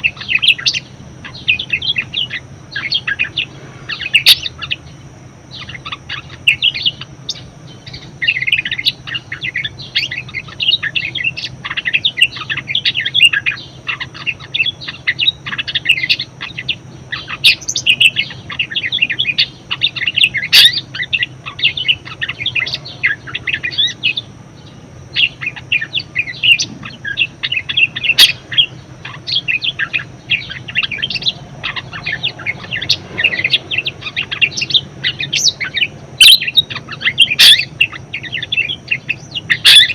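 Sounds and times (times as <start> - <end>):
budgerigar chattering warble: 0.0 - 4.9, 5.5 - 39.9.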